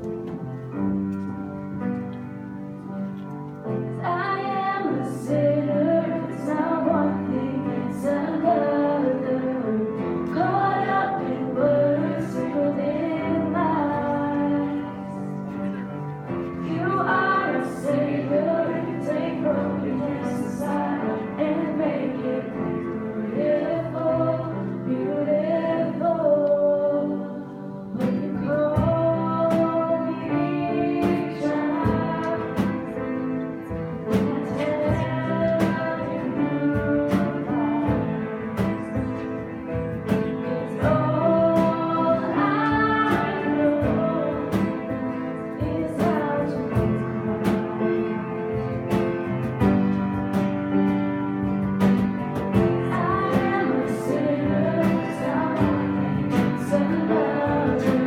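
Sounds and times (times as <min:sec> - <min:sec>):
steady musical accompaniment: 0:00.0 - 0:58.0
woman singing worship song: 0:03.9 - 0:15.9, 0:16.6 - 0:48.0, 0:52.4 - 0:58.0.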